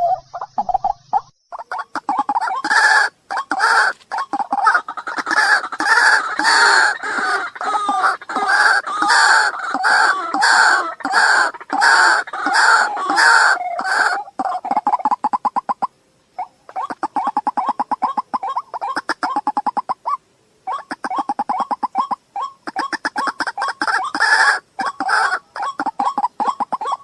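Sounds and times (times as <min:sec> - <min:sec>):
waterhen harsh calls: 0:00.0 - 0:27.0.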